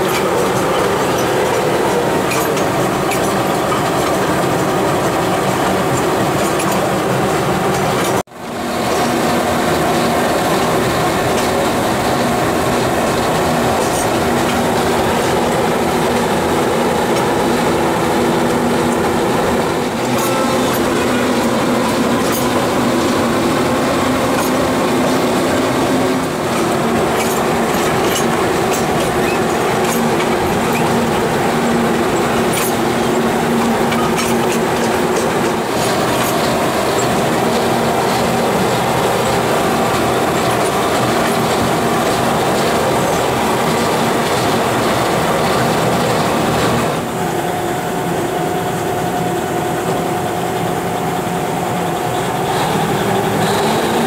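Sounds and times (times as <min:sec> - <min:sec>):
diesel locomotive engine drone: 0:00.0 - 0:54.0
rail clicks: 0:00.0 - 0:54.0
train wheels rumbling: 0:00.0 - 0:54.0.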